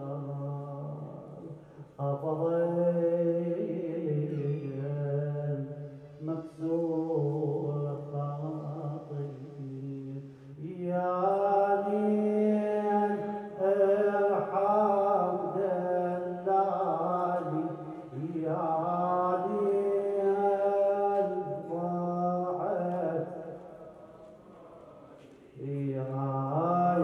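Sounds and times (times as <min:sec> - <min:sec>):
man chanting a lament: 0:00.0 - 0:27.0.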